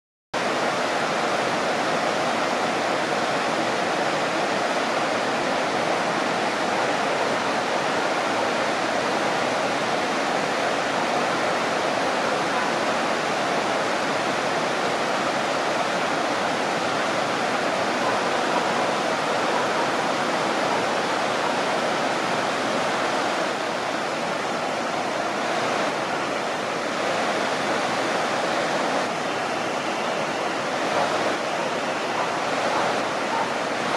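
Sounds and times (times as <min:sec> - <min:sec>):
river waterfall and rapids rushing: 0:00.4 - 0:33.9.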